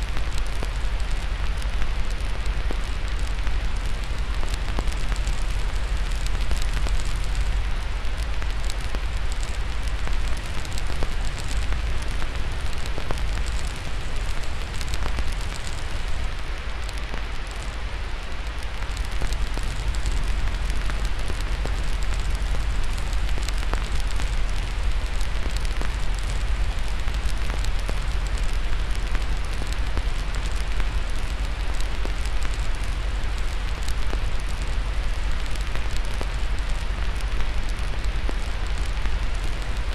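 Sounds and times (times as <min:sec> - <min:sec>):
fire crackling and popping: 0:00.0 - 0:39.9
steady white-noise hiss: 0:00.0 - 0:39.9.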